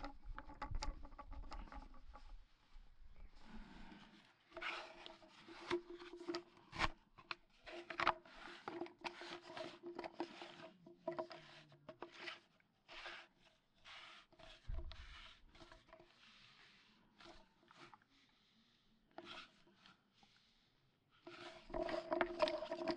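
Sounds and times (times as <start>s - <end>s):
plastic fittings scraping: 0.0s - 2.4s, 3.4s - 18.0s, 21.2s - 22.9s.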